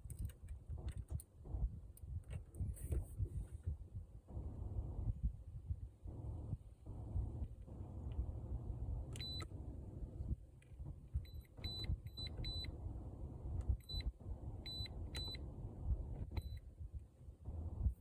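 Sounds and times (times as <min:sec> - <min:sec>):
low rumble: 0:00.7 - 0:18.0.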